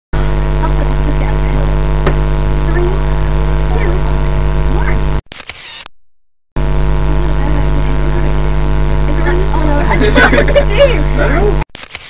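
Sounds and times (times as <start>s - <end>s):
loud electrical mains hum: 0.2s - 5.2s, 6.6s - 11.7s.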